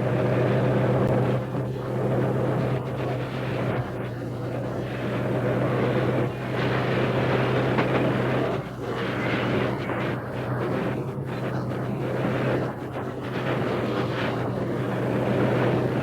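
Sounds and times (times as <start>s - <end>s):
locomotive low hum: 0.0s - 16.0s
locomotive rushing rumble: 0.0s - 16.0s.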